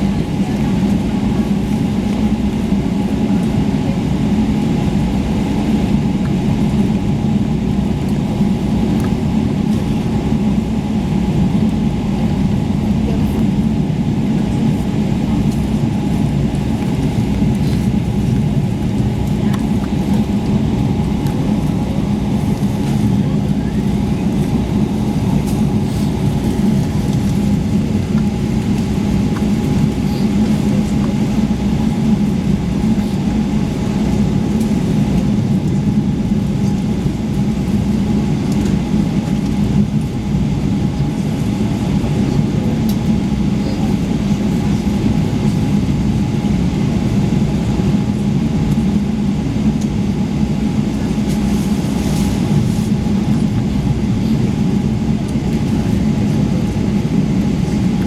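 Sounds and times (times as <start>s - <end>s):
air-conditioning: 0.0s - 58.0s
jet engines running at low power: 0.0s - 58.0s.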